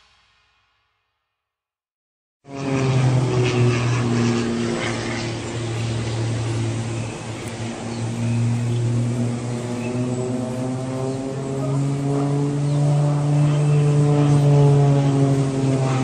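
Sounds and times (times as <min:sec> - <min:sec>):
propeller airplane engine droning: 0:02.4 - 0:16.0.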